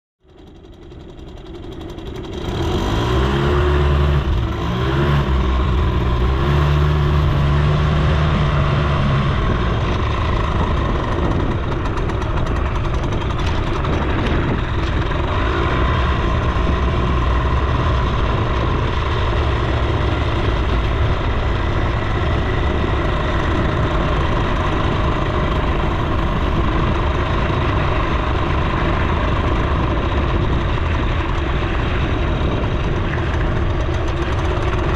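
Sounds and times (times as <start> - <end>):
moped engine: 0.2 - 34.9
rush of noise: 0.6 - 34.9.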